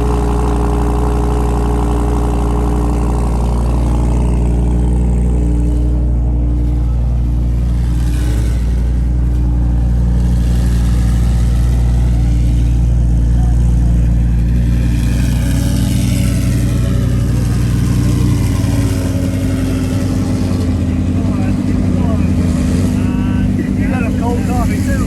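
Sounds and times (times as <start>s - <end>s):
car engine running loudly: 0.0s - 25.0s.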